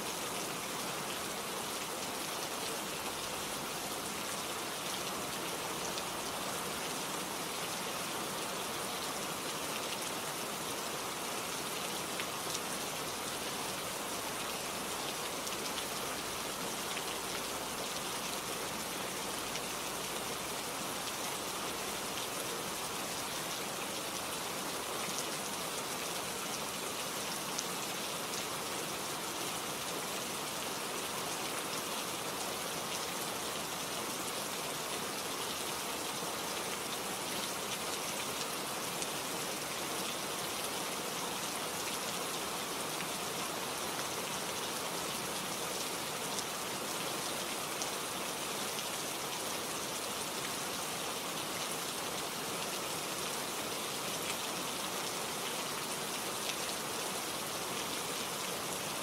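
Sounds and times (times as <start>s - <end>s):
rain pattering on leaves: 0.1s - 59.0s.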